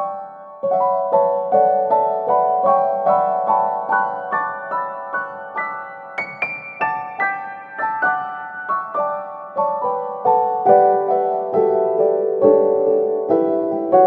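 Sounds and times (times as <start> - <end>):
simple piano melody: 0.0 - 14.0.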